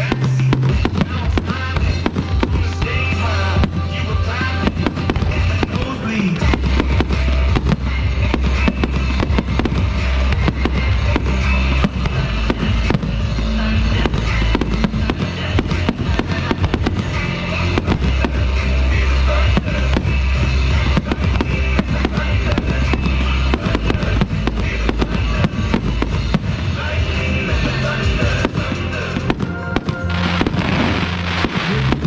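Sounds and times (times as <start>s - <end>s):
fireworks bangs and crackles: 0.0s - 32.0s
music with low bass notes: 0.0s - 32.0s.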